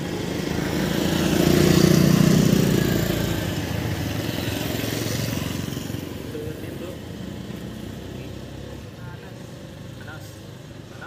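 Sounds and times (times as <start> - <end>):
vehicle engine passing by: 0.0 - 10.4
steady traffic noise: 0.0 - 11.0.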